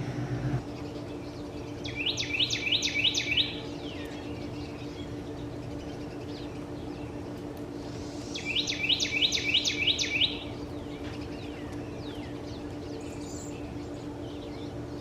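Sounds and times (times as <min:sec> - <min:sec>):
songbird singing: 0:00.0 - 0:15.0
steady low hum: 0:00.0 - 0:15.0.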